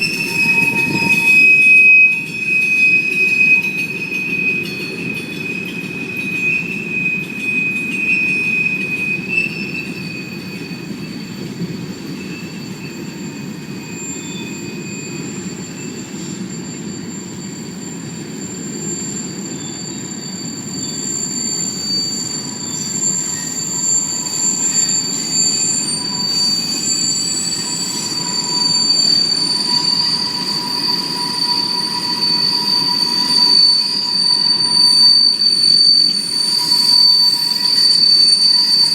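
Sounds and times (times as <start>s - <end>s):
high-pitched wheel squeal: 0.0s - 38.9s
train wheels rumbling on rail: 0.0s - 38.9s.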